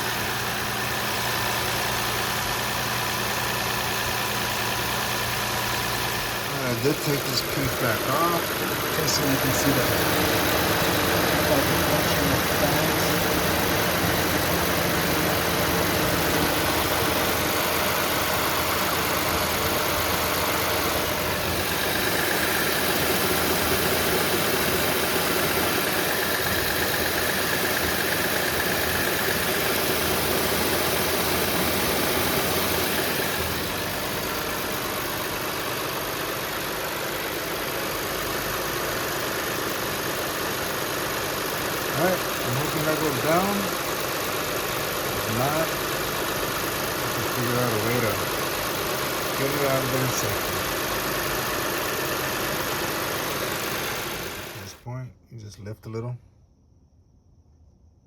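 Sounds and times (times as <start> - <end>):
radiator fans rushing air: 0.0 - 54.7
car engine idling: 0.0 - 55.0.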